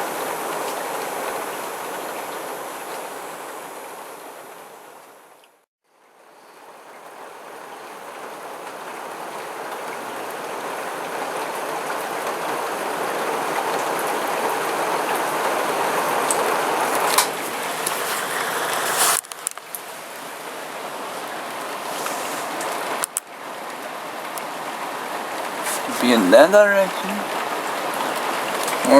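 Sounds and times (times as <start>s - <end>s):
heavy rain: 0.0s - 5.4s, 6.1s - 28.9s.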